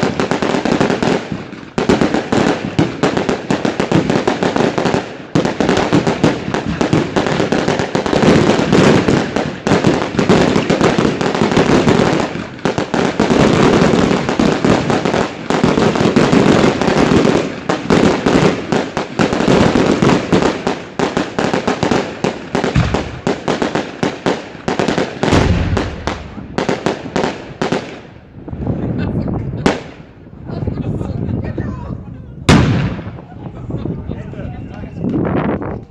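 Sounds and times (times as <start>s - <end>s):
fireworks bangs and crackling: 0.0s - 35.9s.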